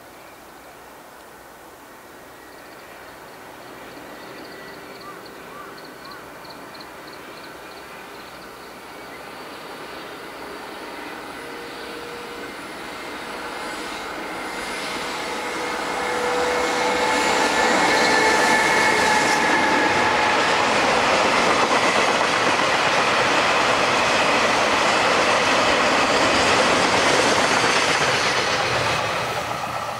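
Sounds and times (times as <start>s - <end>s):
freight train passing: 0.0s - 29.9s.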